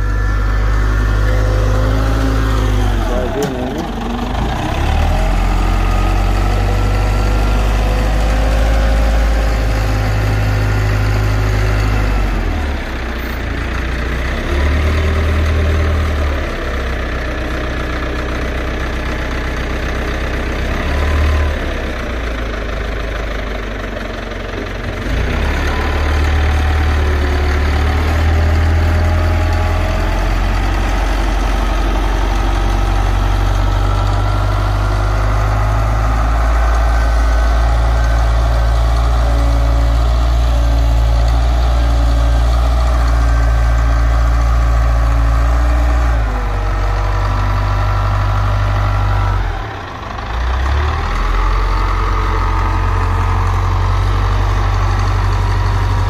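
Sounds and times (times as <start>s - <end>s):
wheel loader diesel engine: 0.0s - 56.0s.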